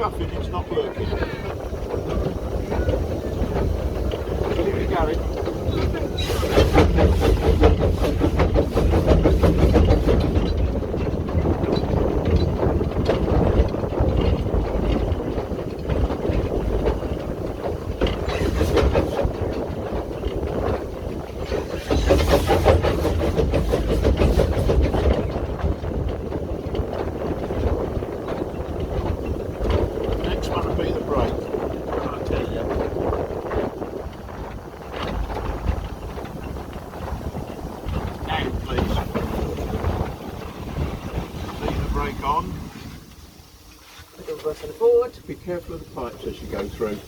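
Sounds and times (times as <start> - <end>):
steam locomotive exhaust chuffing: 0.0 - 47.0
wheels running on rails: 0.0 - 47.0.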